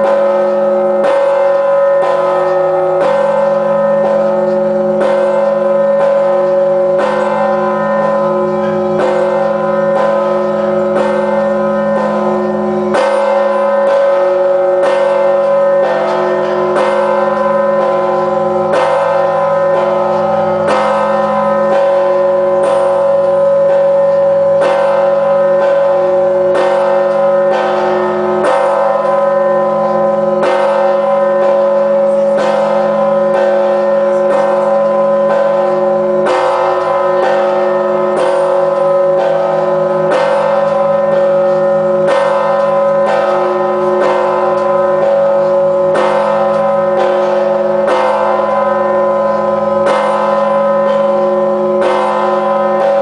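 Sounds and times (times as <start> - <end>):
large bell tolling: 0.0 - 53.0.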